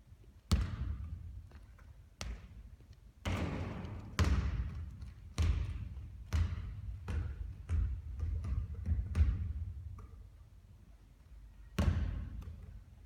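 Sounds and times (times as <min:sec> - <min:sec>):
basketball bouncing on court: 0:00.5 - 0:10.0, 0:11.8 - 0:12.8.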